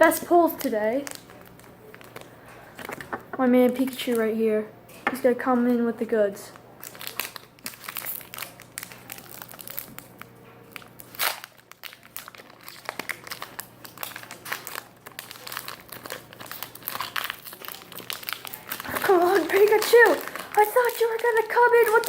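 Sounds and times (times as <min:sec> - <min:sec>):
foil wrapper crinkling: 0:00.4 - 0:03.4, 0:06.8 - 0:22.0.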